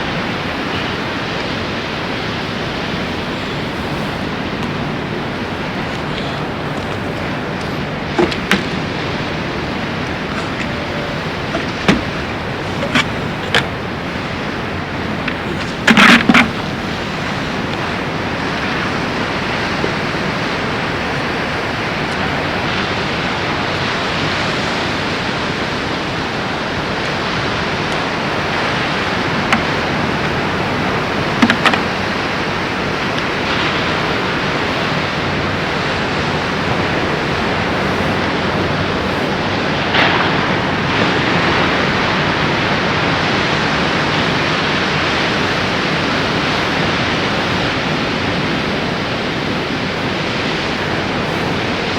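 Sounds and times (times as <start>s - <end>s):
ocean surf rushing: 0.0s - 51.9s.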